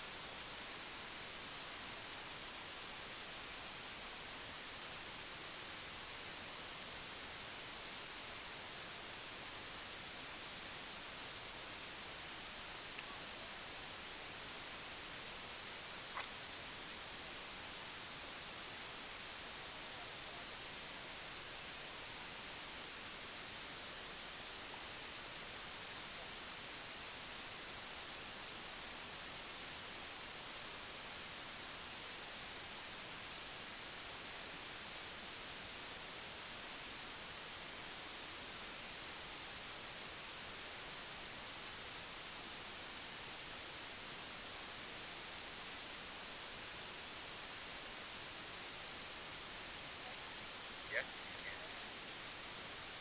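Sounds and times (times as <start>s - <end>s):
steady static hiss: 0.0s - 53.0s.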